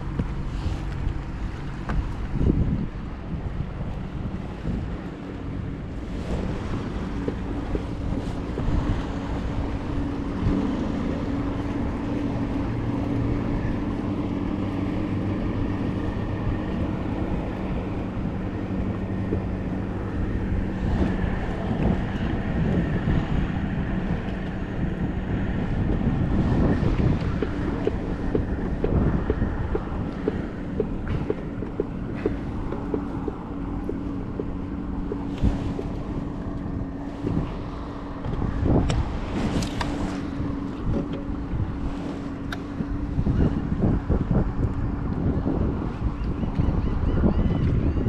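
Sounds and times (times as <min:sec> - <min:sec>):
boat engine droning: 0:00.0 - 0:48.0
wind buffeting microphone: 0:00.0 - 0:48.0.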